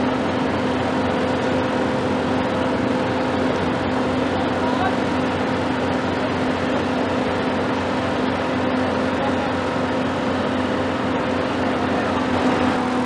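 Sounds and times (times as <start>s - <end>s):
hoist engine humming: 0.0s - 13.0s.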